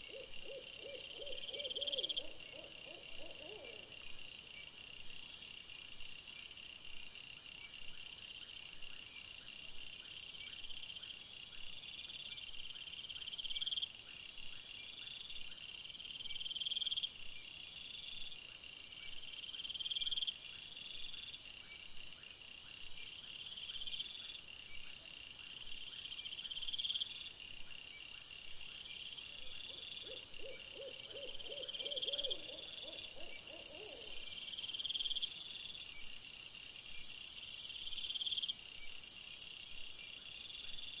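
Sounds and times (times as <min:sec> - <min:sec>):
lower pulsing insect calls: 0:00.0 - 0:41.0
night insects chirping: 0:00.0 - 0:41.0.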